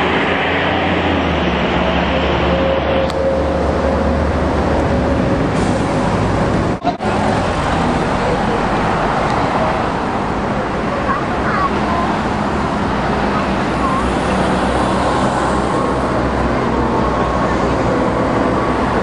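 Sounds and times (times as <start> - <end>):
engine hum: 0.0 - 19.0
vehicles passing: 0.0 - 19.0.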